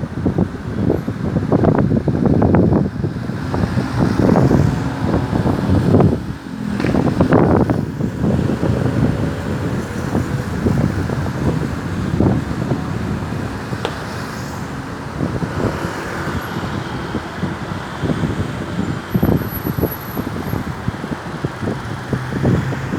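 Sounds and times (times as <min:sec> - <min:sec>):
motor vehicles passing: 0:00.0 - 0:22.9.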